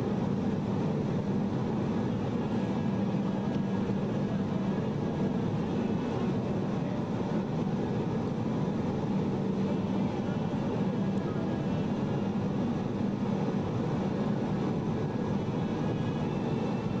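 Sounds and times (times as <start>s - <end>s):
airliner cabin engine rush: 0.0s - 17.0s.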